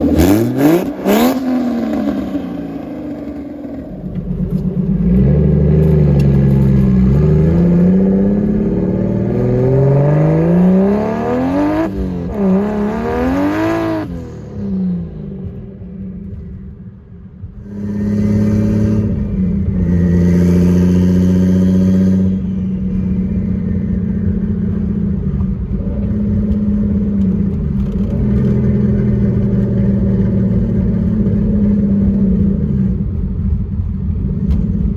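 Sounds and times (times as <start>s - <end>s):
car engine accelerating through gears: 0.0s - 16.7s, 17.4s - 34.9s.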